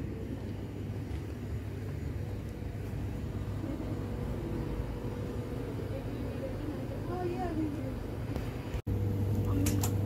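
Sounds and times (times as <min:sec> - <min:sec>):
faint steady hum: 0:00.0 - 0:10.0
steady low rumble: 0:00.0 - 0:10.0.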